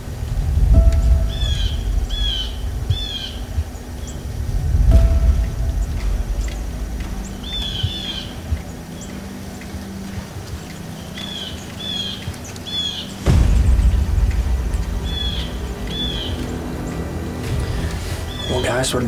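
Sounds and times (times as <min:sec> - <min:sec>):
low rumble: 0:00.0 - 0:18.8
songbird calling: 0:00.7 - 0:19.0.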